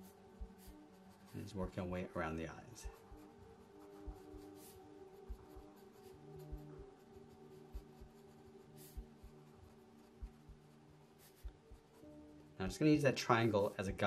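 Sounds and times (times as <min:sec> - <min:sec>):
pencil scratching on paper: 0:00.0 - 0:14.0.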